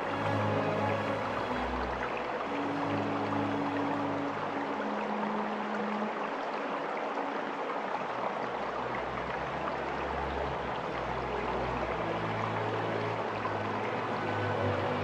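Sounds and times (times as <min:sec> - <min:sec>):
water rushing in stream: 0:00.0 - 0:15.0.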